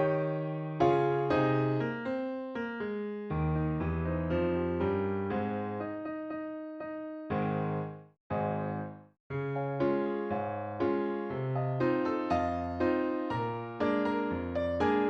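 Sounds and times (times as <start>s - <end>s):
electric piano chords: 0.0s - 15.0s.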